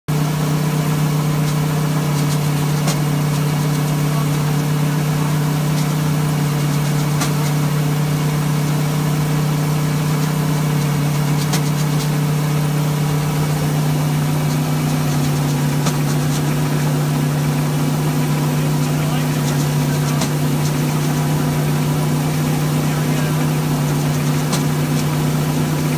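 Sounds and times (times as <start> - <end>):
engine droning: 0.1 - 25.9.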